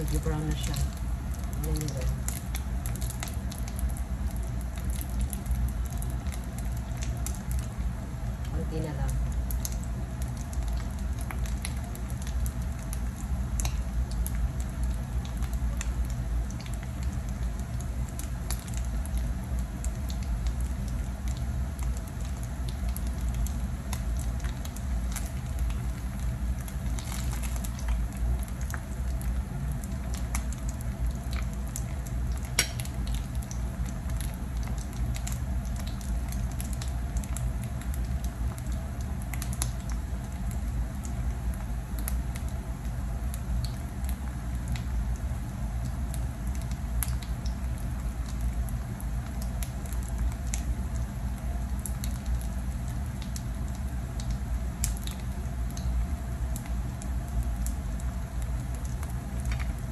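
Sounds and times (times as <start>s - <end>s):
patties sizzling in oil: 0.0s - 59.9s.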